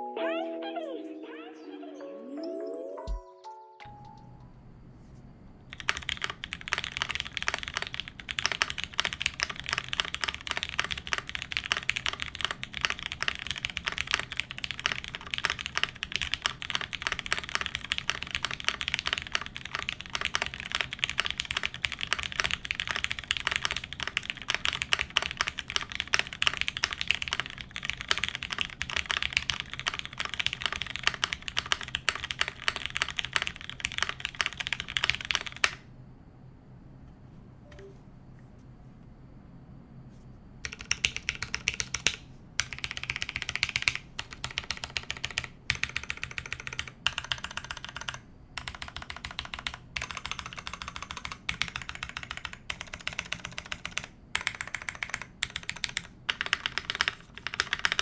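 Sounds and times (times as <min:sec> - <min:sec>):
mechanical keyboard typing: 0:05.7 - 0:35.9, 0:40.6 - 0:58.0.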